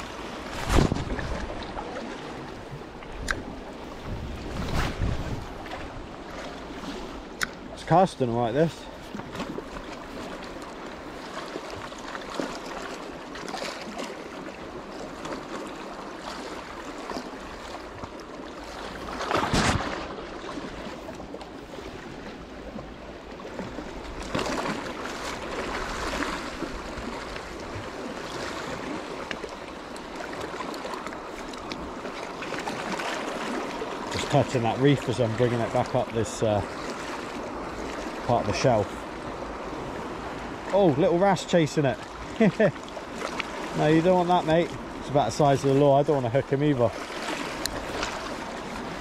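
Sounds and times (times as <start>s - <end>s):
sea water washing against rocks: 0.0s - 49.0s.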